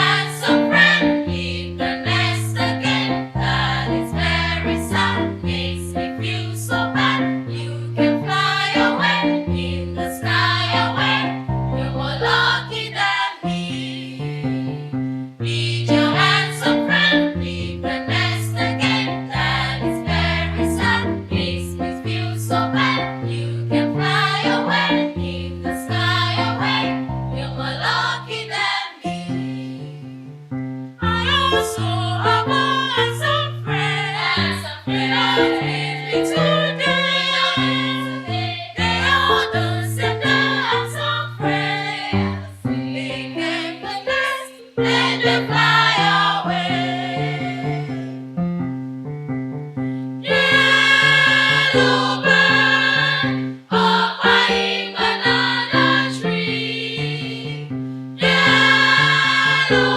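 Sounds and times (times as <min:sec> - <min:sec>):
female choir singing: 0:00.0 - 0:30.1, 0:31.0 - 0:48.2, 0:50.2 - 0:59.9.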